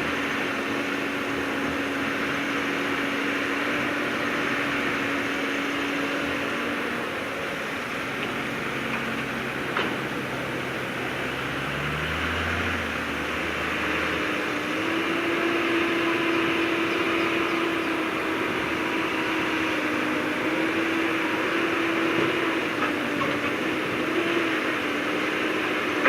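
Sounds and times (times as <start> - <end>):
diesel machinery running: 0.0 - 26.0.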